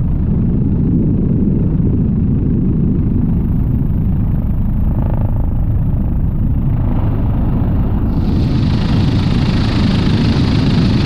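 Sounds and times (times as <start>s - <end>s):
helicopter rotor and engine rumble: 0.0s - 11.0s.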